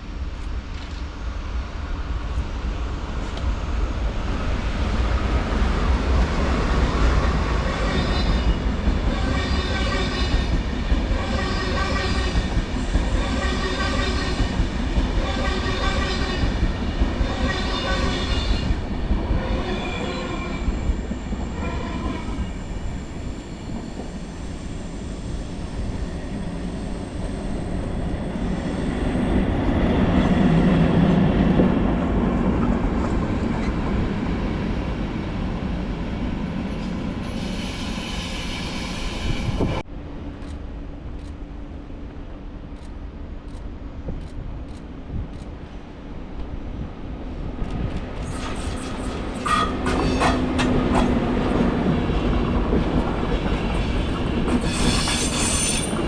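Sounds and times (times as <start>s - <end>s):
train wheels on rails: 0.0s - 46.6s, 47.3s - 56.0s.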